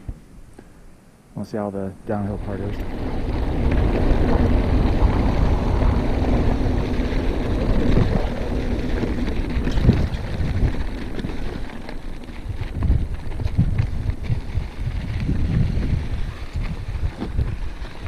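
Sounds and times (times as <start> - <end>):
bike tyre rumble on dirt: 1.6 - 18.0
wind buffeting microphone: 2.0 - 18.0.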